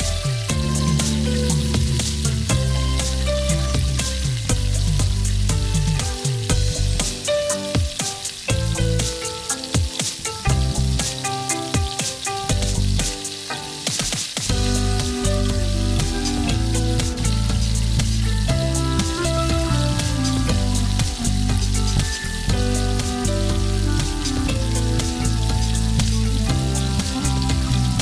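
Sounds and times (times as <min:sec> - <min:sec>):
background music: 0:00.0 - 0:28.0
food sizzling in a pan: 0:00.0 - 0:28.0.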